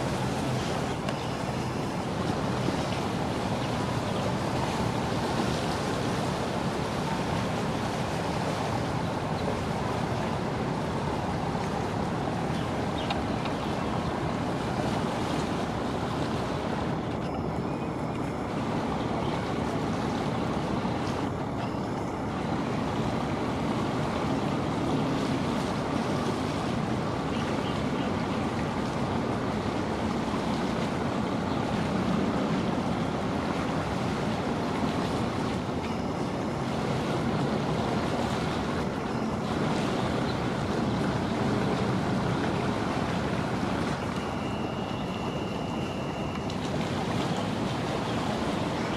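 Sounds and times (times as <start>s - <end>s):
rush of wind and water: 0.0s - 48.9s.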